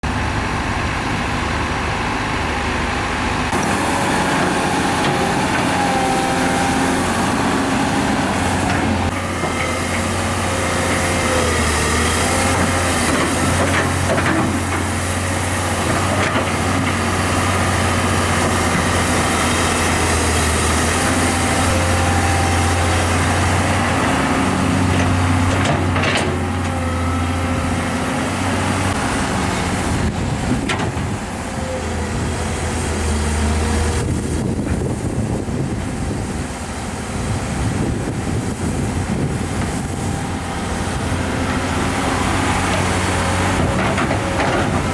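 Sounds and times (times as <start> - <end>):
heavy diesel machinery running: 0.0 - 44.9.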